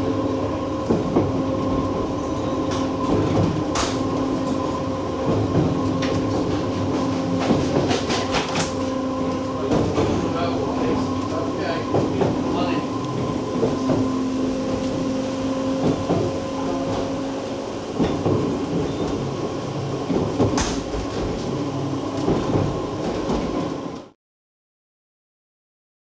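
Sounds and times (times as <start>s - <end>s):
train wheels on rail: 0.0s - 24.2s.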